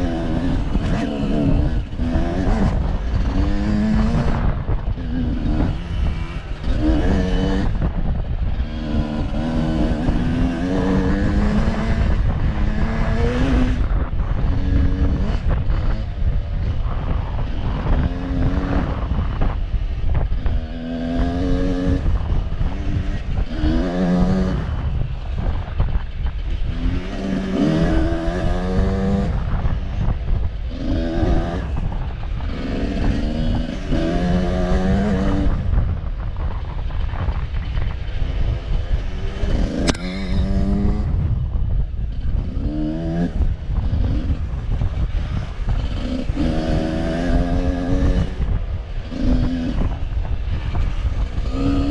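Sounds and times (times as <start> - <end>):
off-road vehicle engine revving: 0.0 - 51.9.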